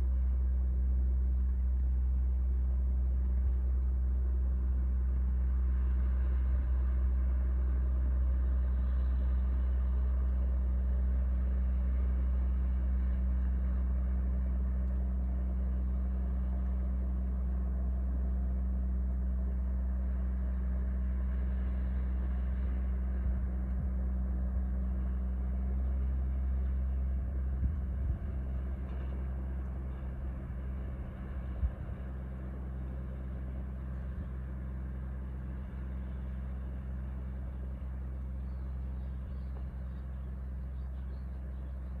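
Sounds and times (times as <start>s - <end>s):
boat diesel engine drone: 0.0s - 42.0s.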